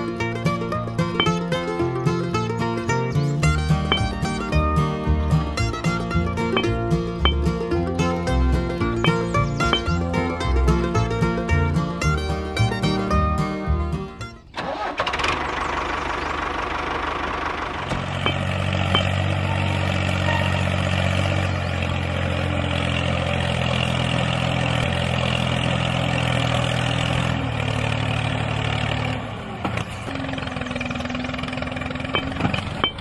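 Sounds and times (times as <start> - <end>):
small tractor engine running: 0.0 - 33.0.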